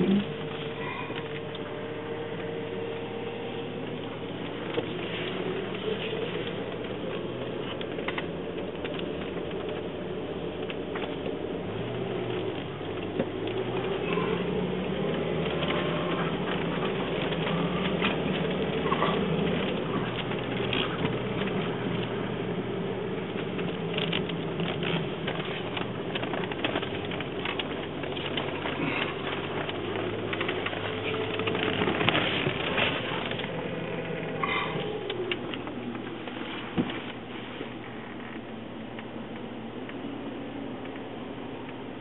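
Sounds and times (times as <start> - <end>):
engine and road drone: 0.0 - 42.0.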